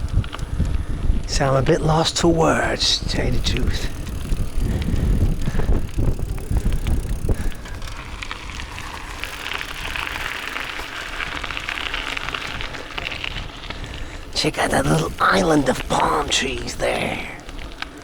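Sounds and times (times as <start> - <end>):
crackling hiss with fine ticks: 0.0 - 18.0
wind buffeting microphone: 0.0 - 18.0.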